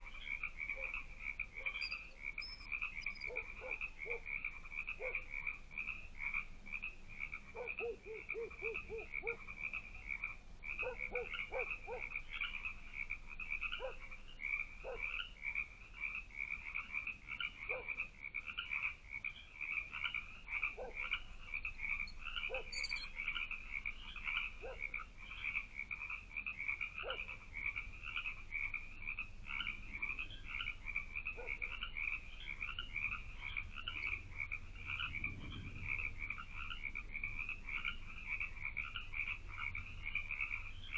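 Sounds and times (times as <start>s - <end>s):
frogs trilling: 0.0s - 40.9s
lower frog calls: 0.0s - 40.9s.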